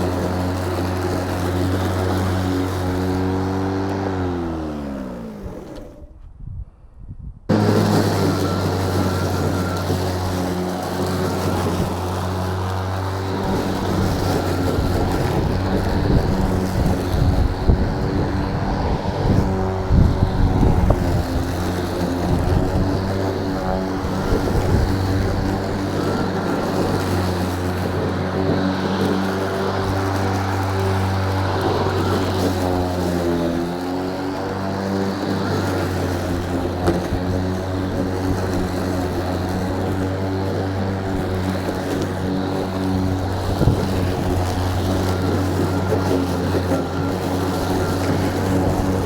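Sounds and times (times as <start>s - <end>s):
electric lawn mower humming: 0.0s - 6.2s, 7.5s - 49.0s.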